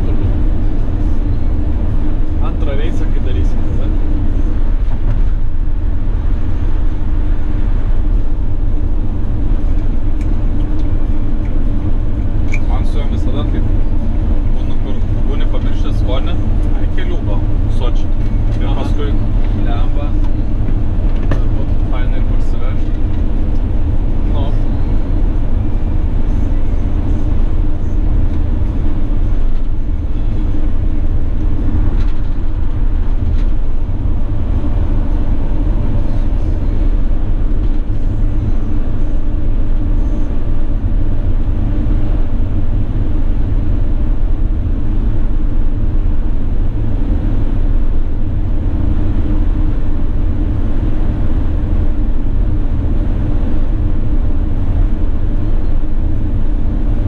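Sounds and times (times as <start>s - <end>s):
diesel engine drone: 0.0s - 57.0s
tyre and wind roar: 0.0s - 57.0s.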